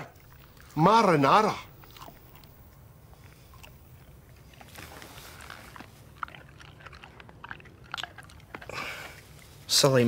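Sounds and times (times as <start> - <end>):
person chewing with mouth clicks: 0.0 - 9.6
low steady hum: 0.0 - 10.0.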